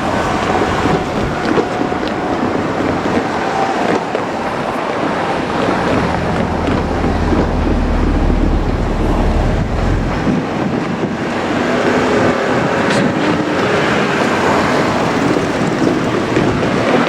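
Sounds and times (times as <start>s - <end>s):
wheel clacks: 0.0s - 10.6s, 12.9s - 17.0s
train wheels rumbling on rails: 0.0s - 17.0s.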